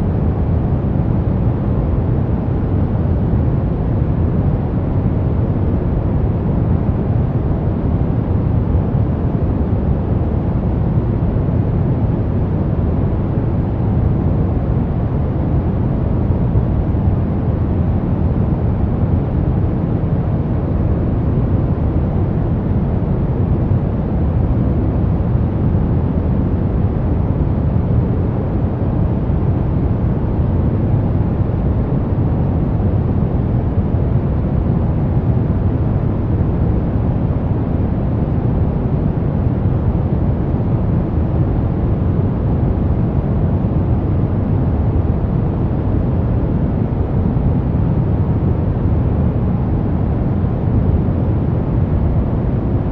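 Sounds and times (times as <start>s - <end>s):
brown noise: 0.0s - 52.9s.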